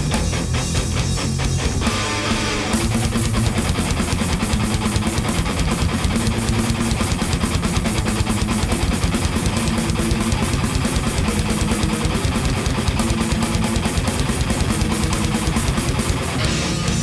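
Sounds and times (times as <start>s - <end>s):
thrash metal band playing: 0.0s - 17.0s.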